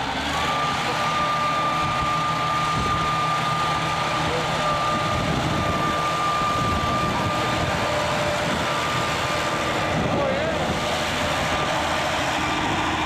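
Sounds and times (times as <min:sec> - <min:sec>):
high whine: 0:00.0 - 0:13.0
tractor diesel engine running: 0:00.0 - 0:13.0.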